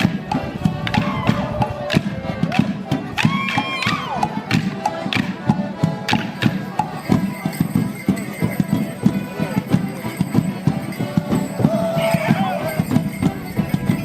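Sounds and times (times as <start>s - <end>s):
folk dance band playing: 0.0s - 14.0s.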